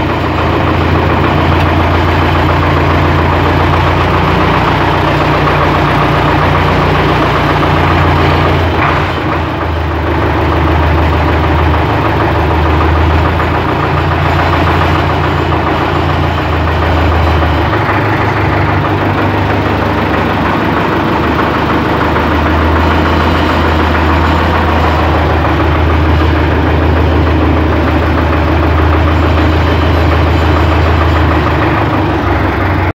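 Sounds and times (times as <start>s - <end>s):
tractor diesel engine idling: 0.0s - 32.9s.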